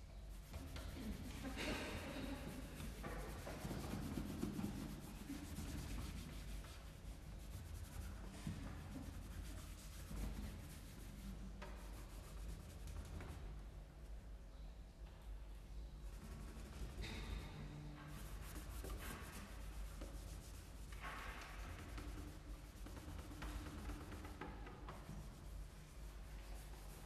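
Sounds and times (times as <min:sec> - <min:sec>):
hand rubbing cello body: 0:00.2 - 0:13.5, 0:16.1 - 0:27.0.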